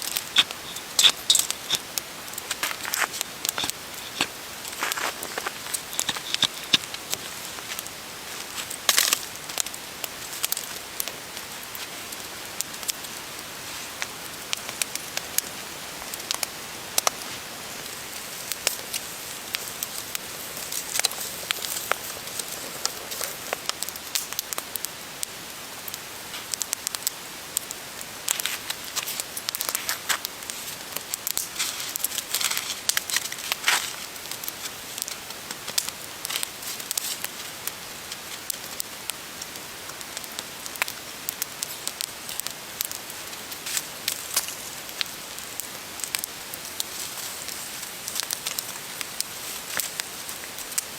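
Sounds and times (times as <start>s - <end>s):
sharp crackles and pops: 0.0s - 50.9s
steady hiss: 0.0s - 50.9s.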